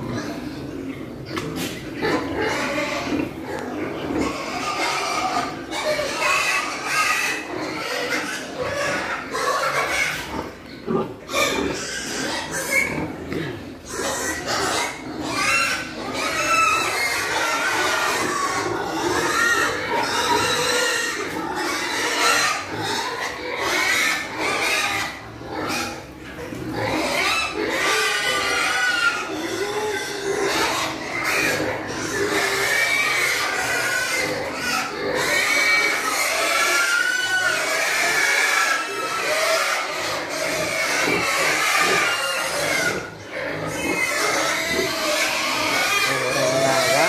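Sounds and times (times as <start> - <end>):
pigs grunting: 0.0 - 47.0.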